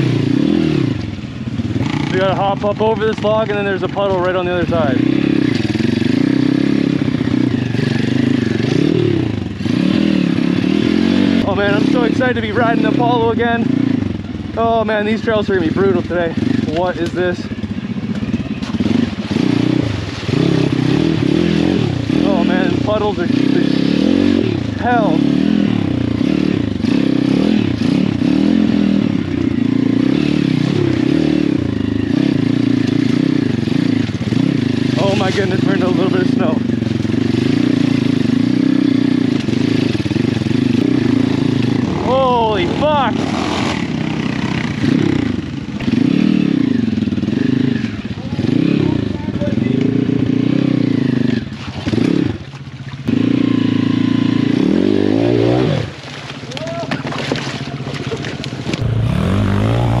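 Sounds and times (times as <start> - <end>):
motorbike engine revving: 0.0 - 60.0.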